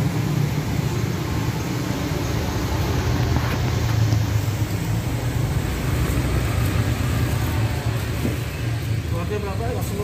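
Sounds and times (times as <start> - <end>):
road traffic rumbling: 0.0 - 10.0.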